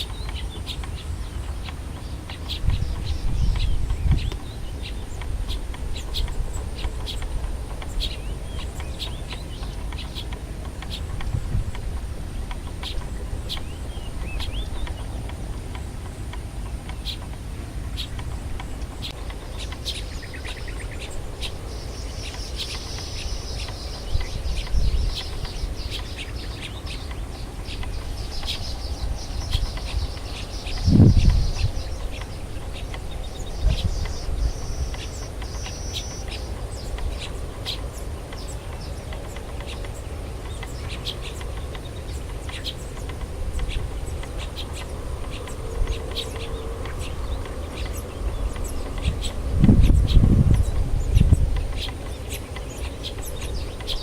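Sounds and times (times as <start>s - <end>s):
birds chirping and calling: 0.0s - 54.0s
low steady rumble: 0.0s - 54.0s.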